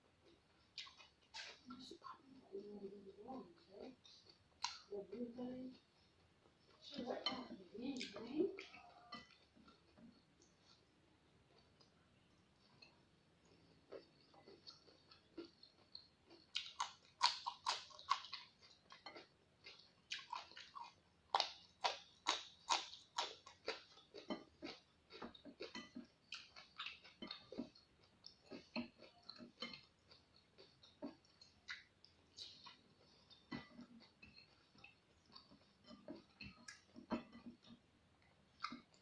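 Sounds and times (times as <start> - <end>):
chewing crisp vegetables: 0.0 - 39.0.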